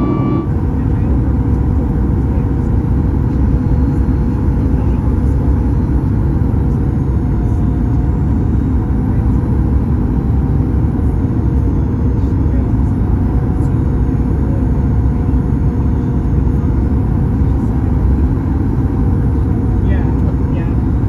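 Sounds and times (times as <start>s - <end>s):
jet engine cabin rumble: 0.0s - 21.0s.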